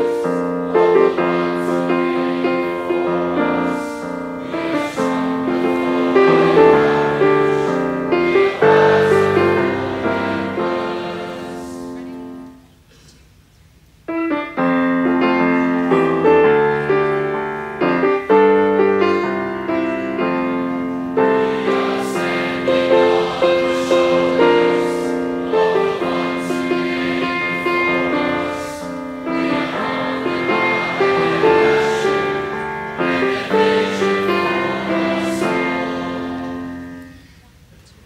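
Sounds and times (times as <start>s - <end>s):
piano hymn music: 0.0s - 12.7s, 14.0s - 37.3s.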